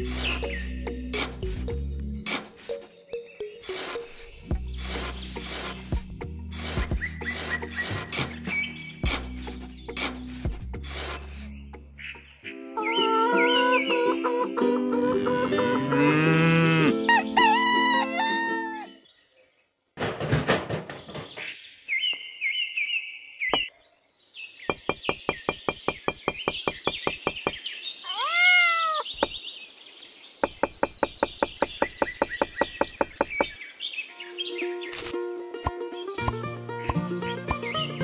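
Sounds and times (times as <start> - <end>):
birds chirping: 0.0 - 14.9, 20.6 - 38.0.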